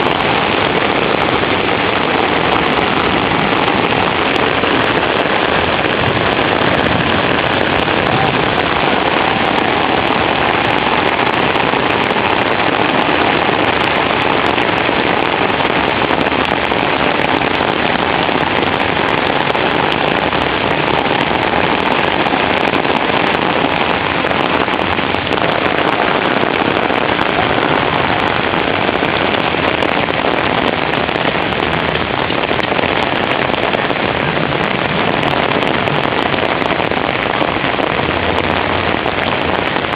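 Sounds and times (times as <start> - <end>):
heavy rain: 0.0 - 39.9
raindrops ticking on surfaces: 0.0 - 39.9.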